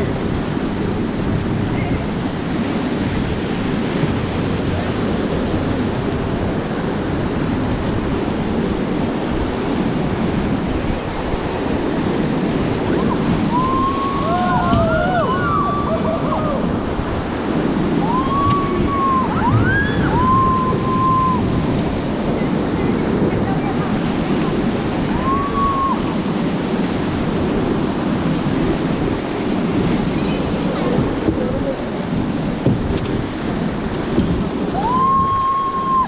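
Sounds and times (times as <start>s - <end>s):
rushing whitewater: 0.0s - 36.0s.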